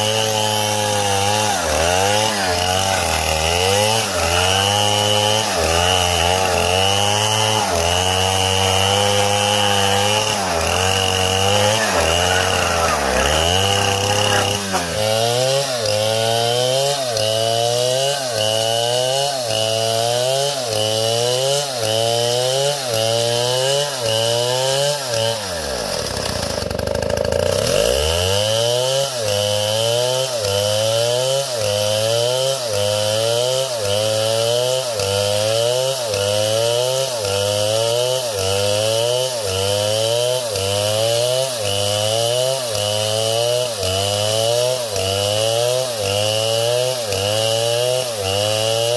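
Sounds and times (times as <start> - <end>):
chainsaw running: 0.0 - 48.9.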